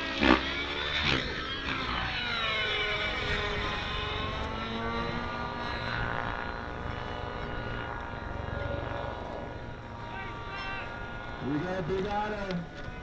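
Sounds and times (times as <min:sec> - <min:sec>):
model helicopter engine whining: 0:00.0 - 0:13.0.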